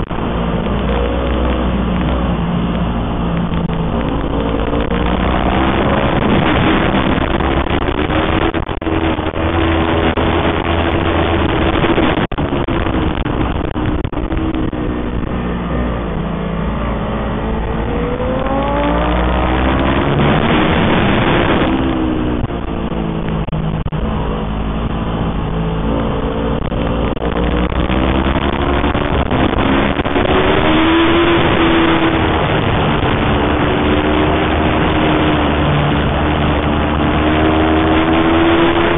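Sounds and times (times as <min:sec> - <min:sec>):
motorcycle engine at racing revs: 0:00.0 - 0:38.9
wind rush on microphone: 0:00.0 - 0:38.9.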